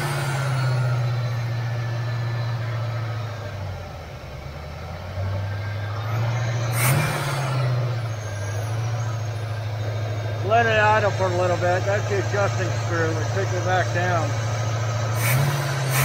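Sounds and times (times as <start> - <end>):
car engine fast idle: 0.0 - 16.0.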